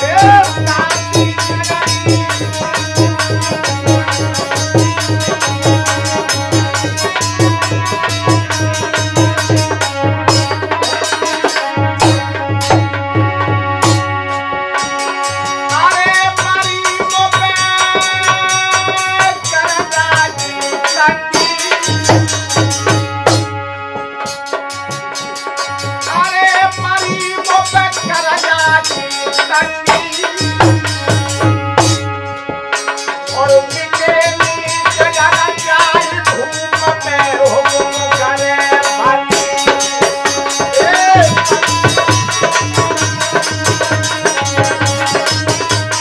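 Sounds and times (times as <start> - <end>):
man singing: 0.0 - 14.8, 15.4 - 46.0
hand drum beat: 0.0 - 15.1, 21.0 - 46.0
harmonium: 0.0 - 46.0.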